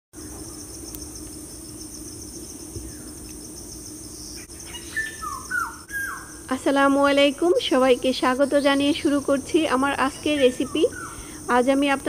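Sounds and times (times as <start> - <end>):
constant low hum: 0.2 - 12.0
crickets chirring: 0.2 - 12.0.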